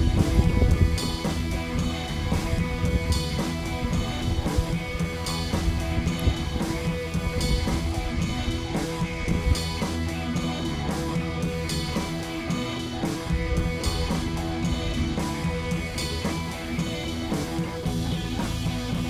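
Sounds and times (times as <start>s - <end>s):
guitar with drum kit: 0.0s - 19.0s.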